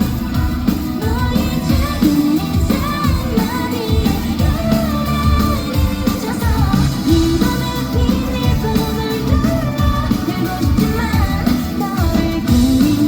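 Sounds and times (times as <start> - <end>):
lead vocal singing: 0.0 - 13.0
live pop-rock band playing: 0.0 - 13.0.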